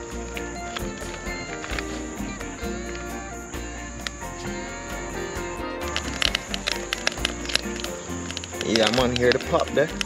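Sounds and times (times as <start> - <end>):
background music with held notes: 0.0 - 10.0
insects chirring: 0.0 - 10.0.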